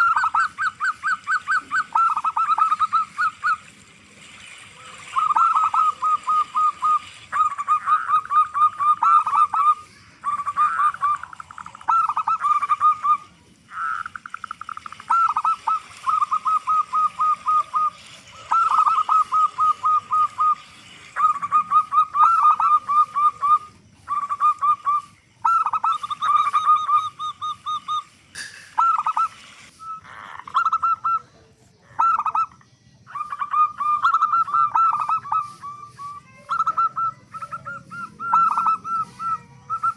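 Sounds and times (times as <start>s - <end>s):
dove cooing in staccato notes: 0.0s - 39.9s.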